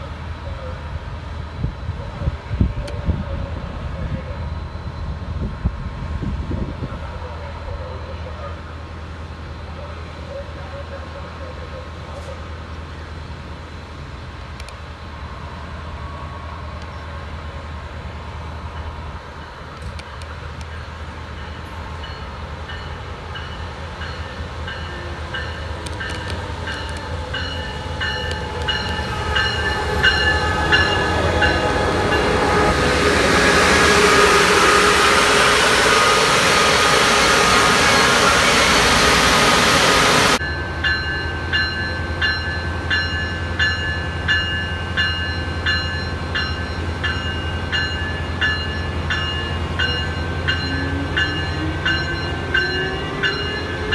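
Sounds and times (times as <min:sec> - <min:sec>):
train passing: 0:00.0 - 0:53.9.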